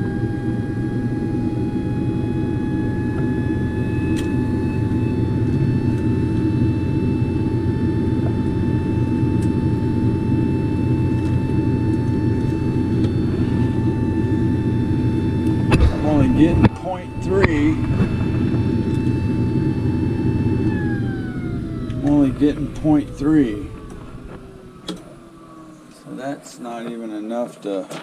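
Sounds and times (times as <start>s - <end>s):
furnace blower whining rush: 0.0s - 27.7s.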